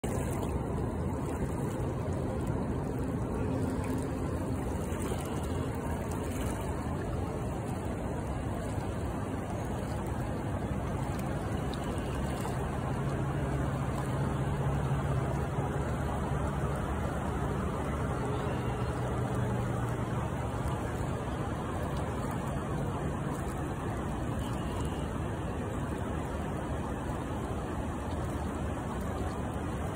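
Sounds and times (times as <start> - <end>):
river current rushing: 0.0 - 29.9.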